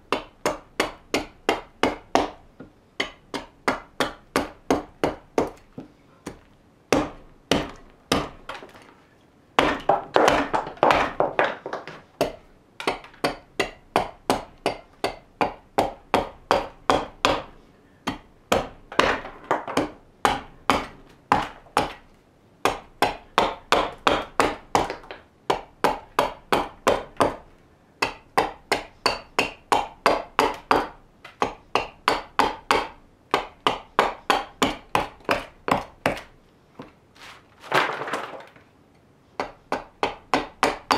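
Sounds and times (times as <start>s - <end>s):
axe chopping green wood: 0.1s - 8.8s, 9.6s - 36.3s, 39.4s - 40.9s.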